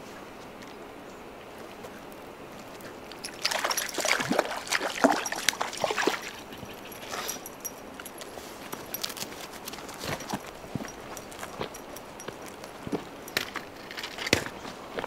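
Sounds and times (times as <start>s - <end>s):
water splashing and sloshing: 1.4s - 15.0s.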